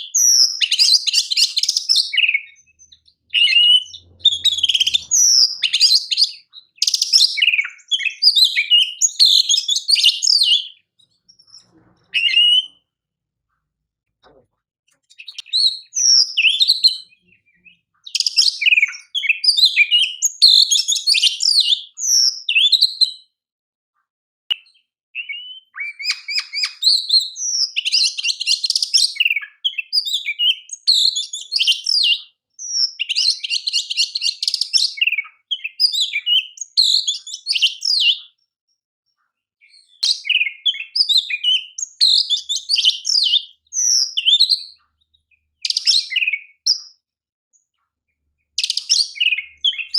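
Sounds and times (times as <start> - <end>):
bird singing whistled notes: 0.0 - 12.9, 15.1 - 23.4, 24.5 - 38.4, 39.6 - 47.0, 48.5 - 49.9.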